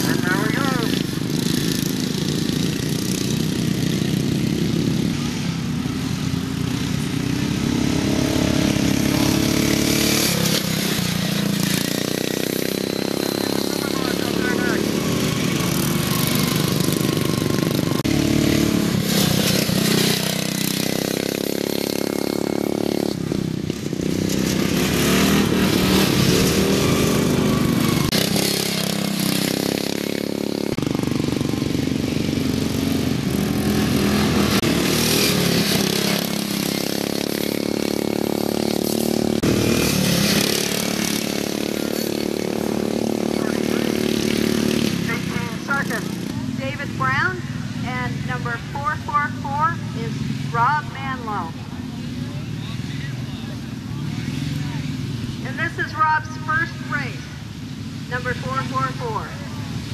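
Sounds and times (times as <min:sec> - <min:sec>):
racing lawn mower engines: 0:00.0 - 0:59.9.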